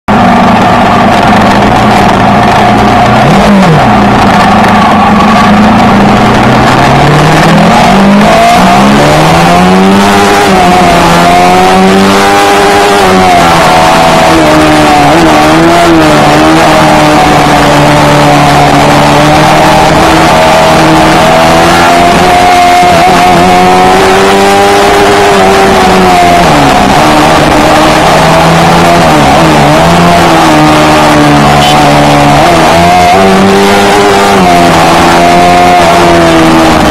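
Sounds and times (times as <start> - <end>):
loud motorcycle exhaust revving: 0.1 - 36.9.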